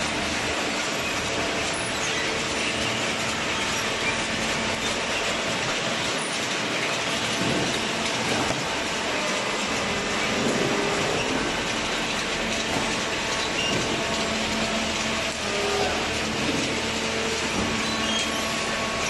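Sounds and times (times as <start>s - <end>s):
conveyor mechanical noise: 0.0s - 19.0s.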